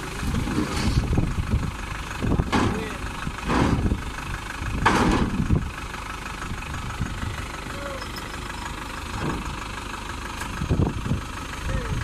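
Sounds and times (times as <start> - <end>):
combine harvester engine idling: 0.0 - 12.0.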